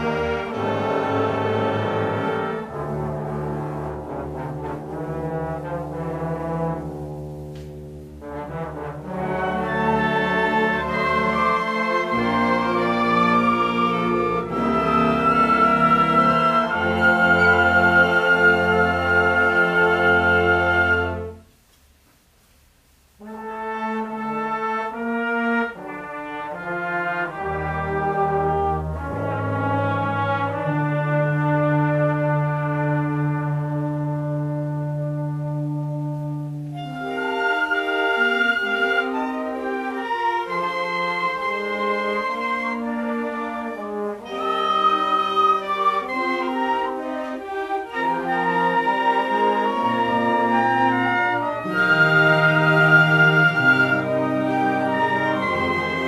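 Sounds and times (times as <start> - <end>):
brass music with held chords: 0.0 - 21.6, 23.0 - 56.0.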